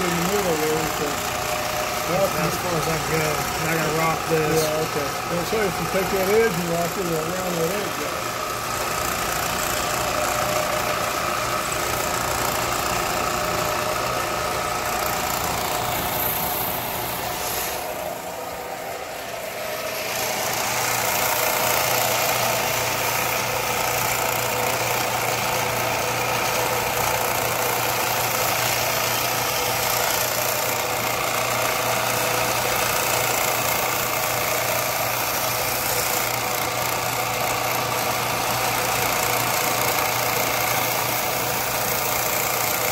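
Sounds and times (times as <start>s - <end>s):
grinder motor hum: 0.0s - 42.9s.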